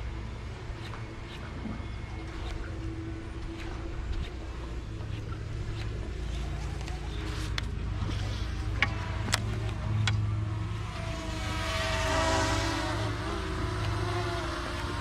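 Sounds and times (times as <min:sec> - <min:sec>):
boat motor humming: 0:00.0 - 0:15.0
wavering swell of noise: 0:00.0 - 0:15.0.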